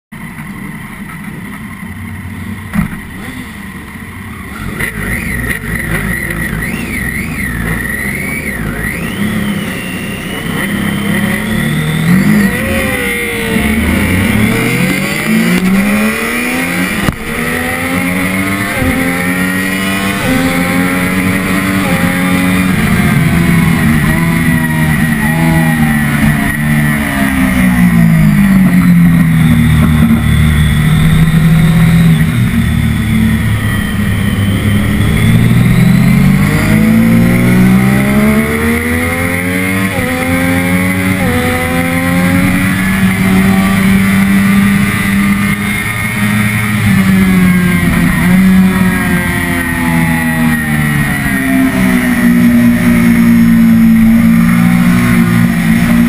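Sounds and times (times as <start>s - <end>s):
motorcycle engine revving: 0.2s - 56.0s.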